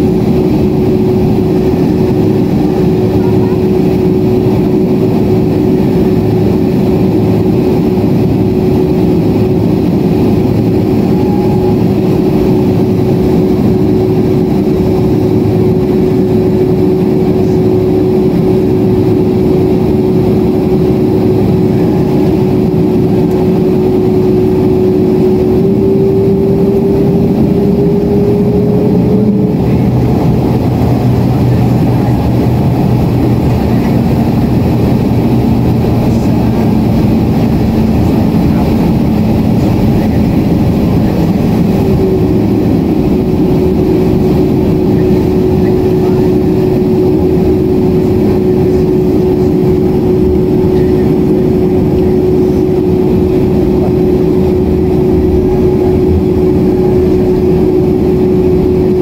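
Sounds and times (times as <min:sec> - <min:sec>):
aircraft cabin engine drone: 0:00.0 - 0:59.0
steady hum: 0:00.0 - 0:59.0.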